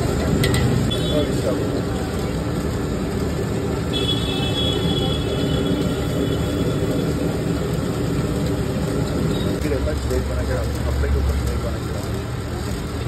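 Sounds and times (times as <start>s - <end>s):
low rumble of street noise: 0.0s - 13.0s.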